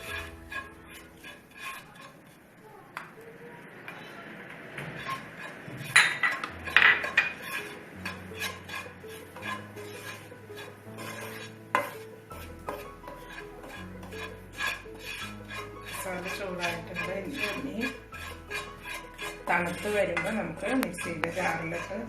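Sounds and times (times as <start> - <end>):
spoon scraping spices in pan: 0.0 - 3.2, 3.9 - 22.0.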